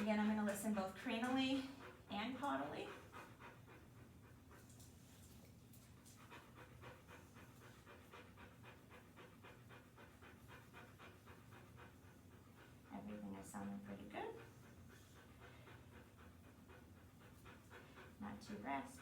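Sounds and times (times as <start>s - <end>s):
dog panting: 0.0s - 19.0s
faint low hum: 0.0s - 19.0s.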